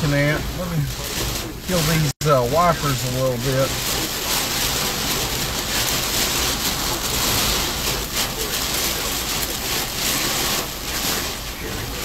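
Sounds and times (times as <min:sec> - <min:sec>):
heavy rain on truck windshield: 0:00.0 - 0:12.0.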